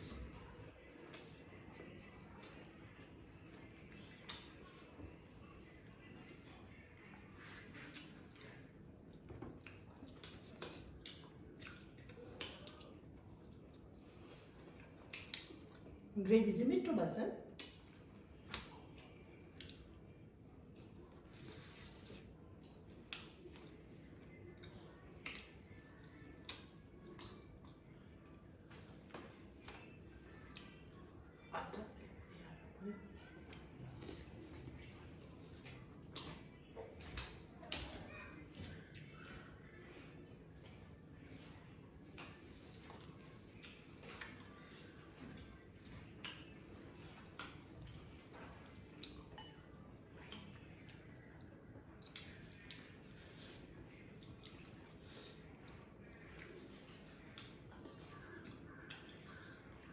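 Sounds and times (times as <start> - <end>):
wet chewing noises: 0.0 - 16.2, 17.5 - 59.9.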